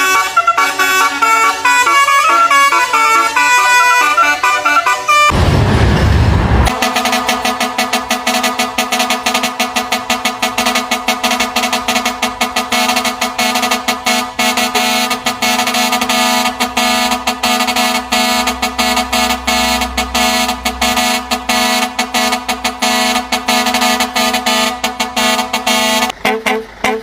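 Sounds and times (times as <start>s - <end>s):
truck air horn blasts: 0.0s - 5.4s, 6.7s - 27.0s.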